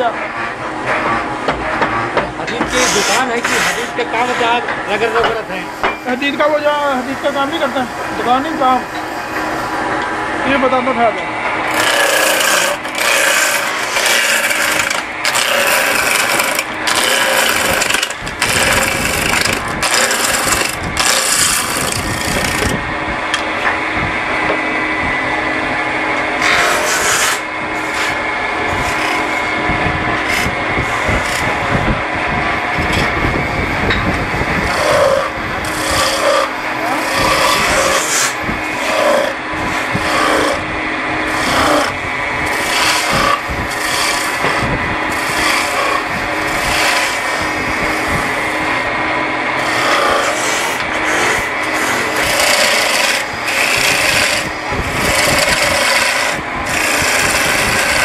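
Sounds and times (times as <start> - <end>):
turning tool cutting wood: 0.0 - 23.7, 26.2 - 58.0
wood lathe humming: 0.0 - 58.0.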